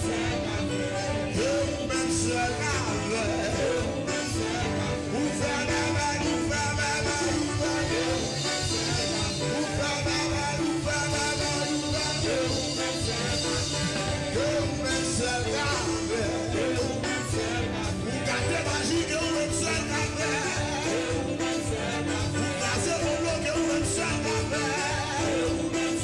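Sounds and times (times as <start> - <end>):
band accompaniment with steady beat: 0.0 - 26.0
man singing into a microphone: 0.0 - 26.0.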